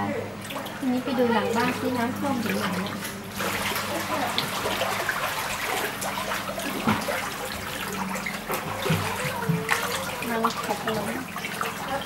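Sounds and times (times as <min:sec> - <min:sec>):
person wading through floodwater: 0:00.3 - 0:12.0.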